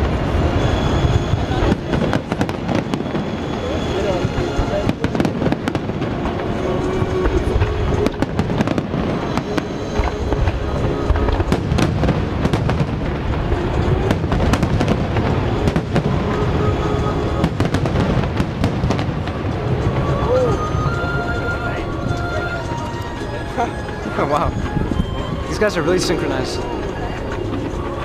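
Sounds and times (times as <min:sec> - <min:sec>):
fireworks booming and cracking: 0:00.0 - 0:28.0.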